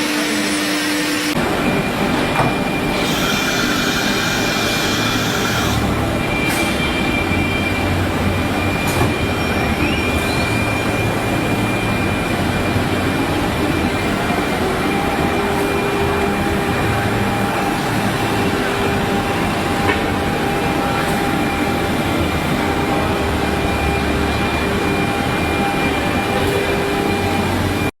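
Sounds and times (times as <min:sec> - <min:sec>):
cnc router spindle whine: 0:00.0 - 0:27.9
machine noise: 0:00.0 - 0:27.9.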